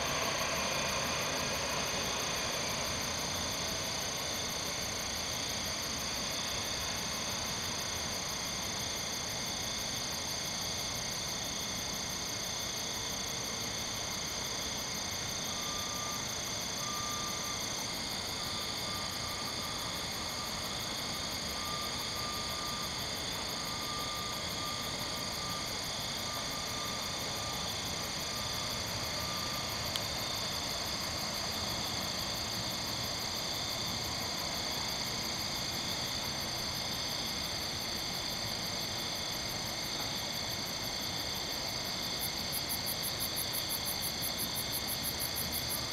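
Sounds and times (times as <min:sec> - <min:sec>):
crickets and katydids trilling: 0:00.0 - 0:45.9.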